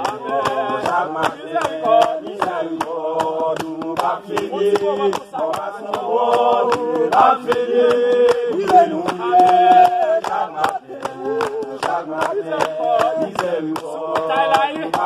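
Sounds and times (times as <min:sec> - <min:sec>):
group singing worship song: 0:00.0 - 0:15.0
hand claps: 0:00.0 - 0:15.0.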